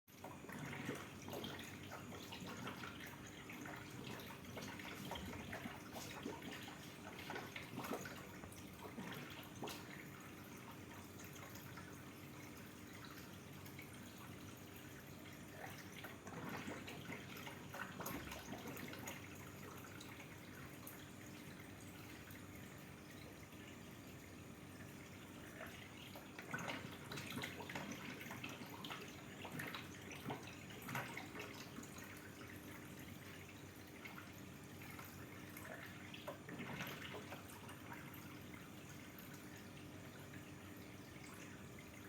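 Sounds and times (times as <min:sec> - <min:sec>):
aquarium water trickling: 0:00.1 - 0:42.0
low steady hum: 0:00.2 - 0:42.0.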